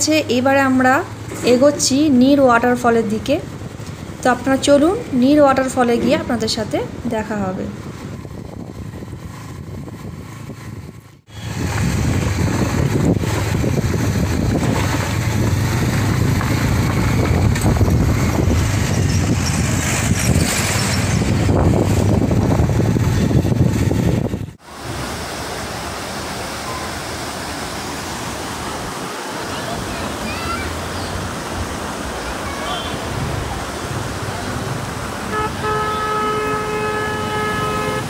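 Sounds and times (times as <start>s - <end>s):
road noise: 0.0s - 38.0s
wind rushing over microphone: 3.3s - 38.0s.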